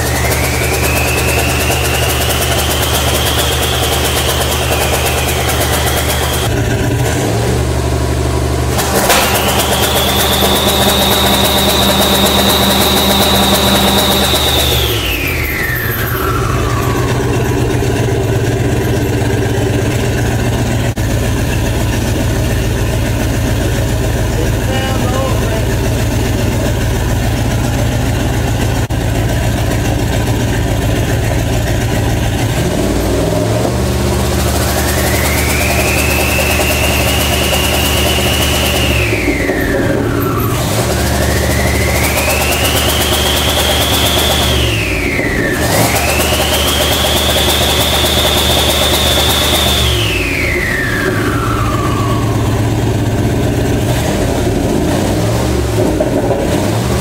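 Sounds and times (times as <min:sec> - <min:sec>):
turbocharged engine running: 0:00.0 - 0:57.0.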